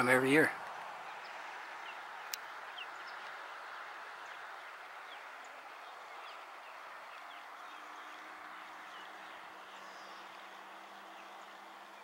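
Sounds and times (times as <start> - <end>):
background hiss: 0.0 - 12.0
faint bird chirps: 1.0 - 12.0.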